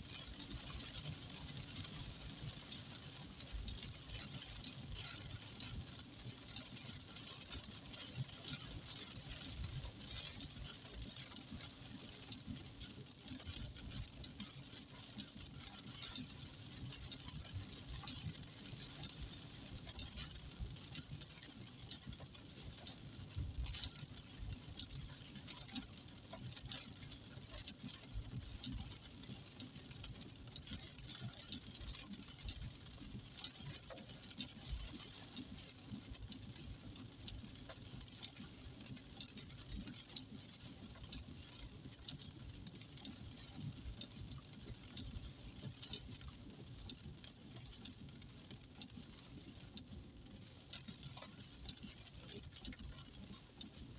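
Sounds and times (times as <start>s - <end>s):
rain pattering on a car: 0.0s - 53.9s.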